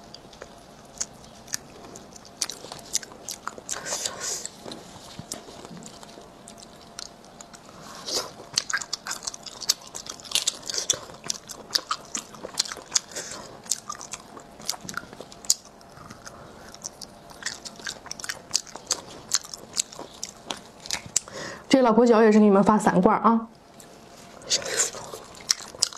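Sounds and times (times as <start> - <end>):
crisp crunching while chewing: 0.0 - 21.3, 23.8 - 25.9.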